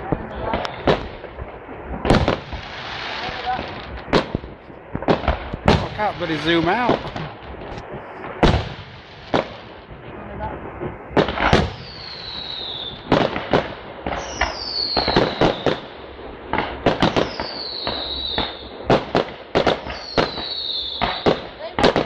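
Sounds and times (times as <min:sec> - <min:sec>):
firework bangs: 0:00.0 - 0:22.0
whistling fireworks: 0:00.0 - 0:22.0.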